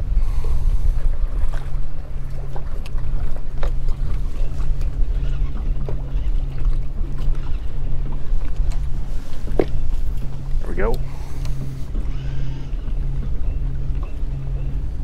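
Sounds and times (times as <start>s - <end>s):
boat engine rumble: 0.0s - 15.0s
constant low hum: 0.0s - 15.0s.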